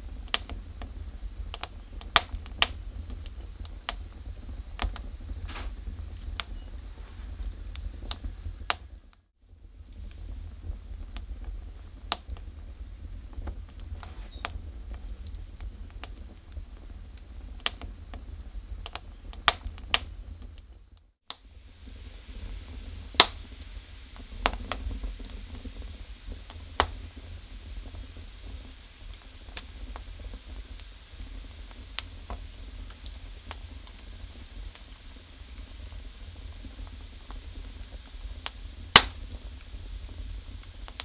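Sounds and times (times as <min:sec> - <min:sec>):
fire low rumble: 0:00.0 - 0:41.0
firewood crackling and popping: 0:00.0 - 0:41.0.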